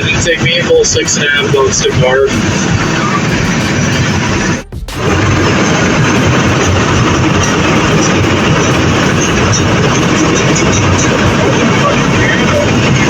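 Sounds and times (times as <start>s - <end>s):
amphibious truck engine droning: 0.0s - 13.0s.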